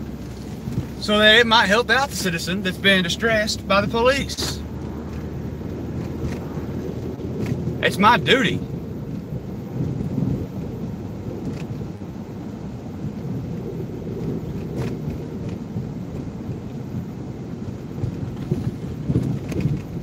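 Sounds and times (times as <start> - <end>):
car engine and tyre noise: 0.0 - 20.0.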